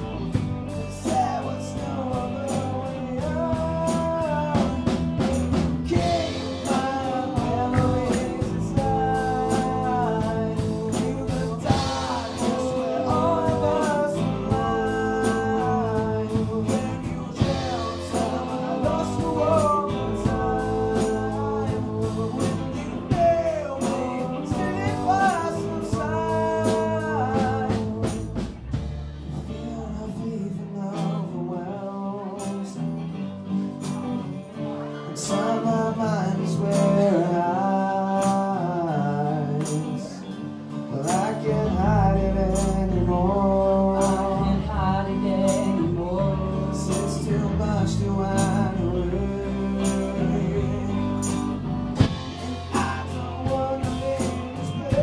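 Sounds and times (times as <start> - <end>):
bass guitar: 0.0 - 55.0
drums: 0.0 - 55.0
electric guitars: 0.0 - 55.0
keyboard: 0.0 - 55.0
person singing lead vocals: 0.0 - 55.0.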